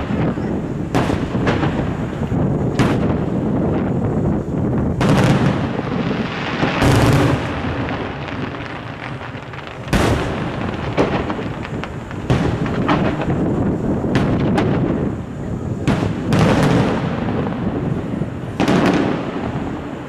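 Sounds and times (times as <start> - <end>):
continuous low rumble: 0.0 - 20.0
fireworks bursting with sharp bangs: 0.0 - 20.0.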